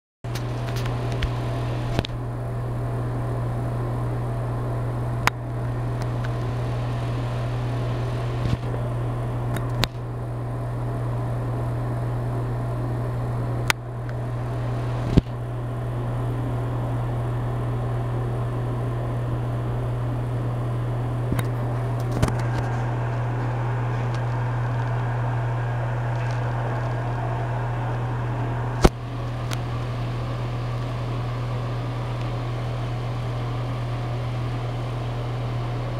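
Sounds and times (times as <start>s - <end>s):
exhaust fan running: 0.3s - 35.9s.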